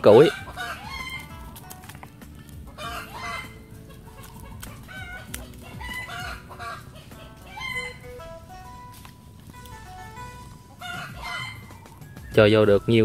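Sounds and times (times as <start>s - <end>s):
chickens clucking: 0.0s - 12.6s.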